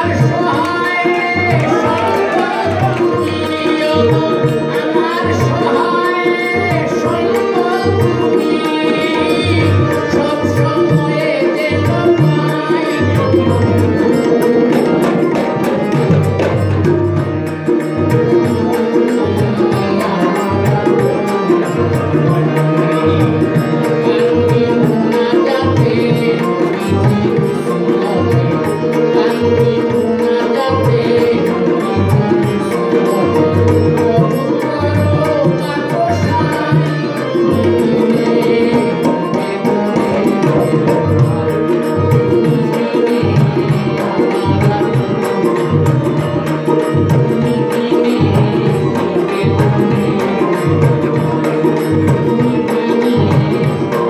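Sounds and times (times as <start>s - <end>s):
harmonium chords: 0.0s - 54.0s
man singing: 0.0s - 54.0s
tabla rhythm: 0.0s - 54.0s.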